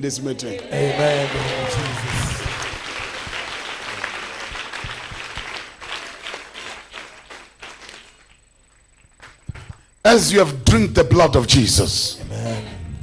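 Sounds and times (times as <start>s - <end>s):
congregation applauding: 0.0s - 12.4s.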